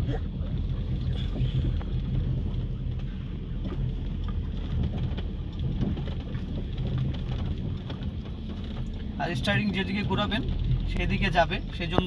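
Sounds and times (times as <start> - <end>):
car engine drone: 0.0 - 12.0
tyre rumble on rough ground: 0.0 - 12.0.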